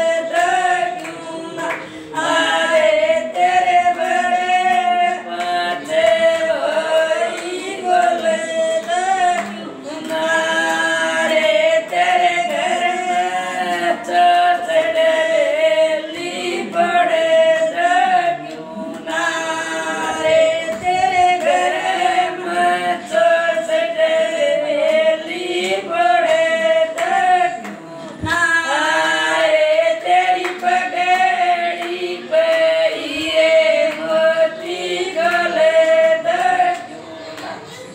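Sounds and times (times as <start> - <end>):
women singing unaccompanied: 0.0 - 37.9.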